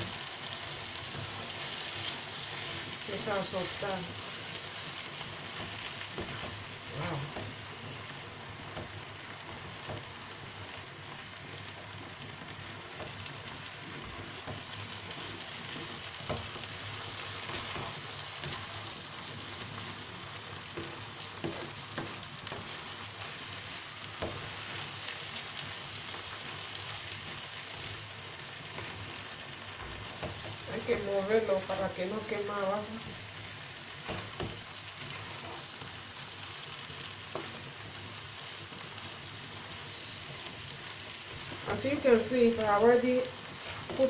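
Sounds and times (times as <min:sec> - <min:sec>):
stew sizzling in a pan: 0:00.0 - 0:44.0.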